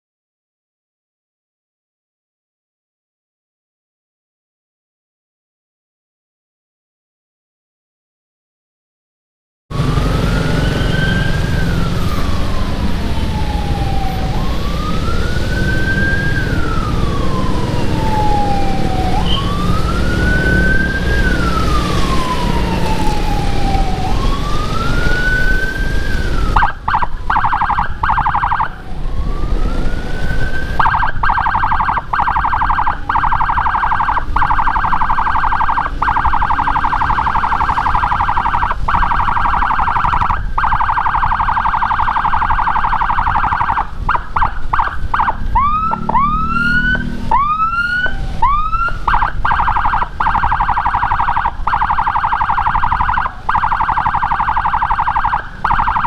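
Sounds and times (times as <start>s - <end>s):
electronic siren wailing: 9.7s - 56.0s
siren fast warble: 9.7s - 56.0s.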